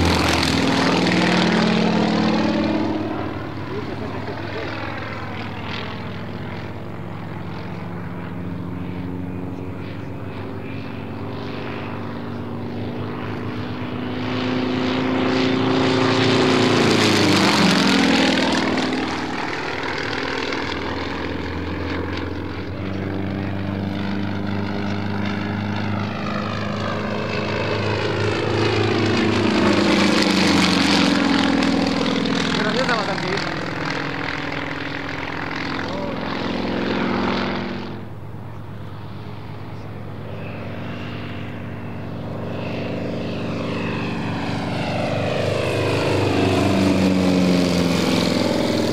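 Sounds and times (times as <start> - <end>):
propeller plane radial engine: 0.0 - 48.9.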